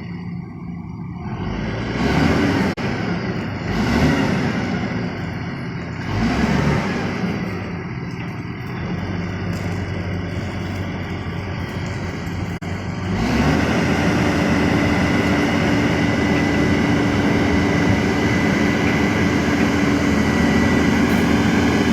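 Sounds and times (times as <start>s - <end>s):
workshop machine whining: 0.0s - 21.9s.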